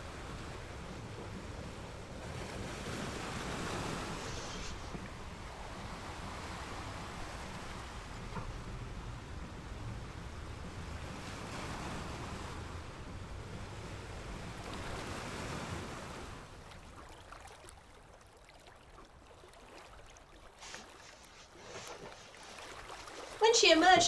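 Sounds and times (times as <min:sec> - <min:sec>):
sea waves washing: 0:00.0 - 0:24.0.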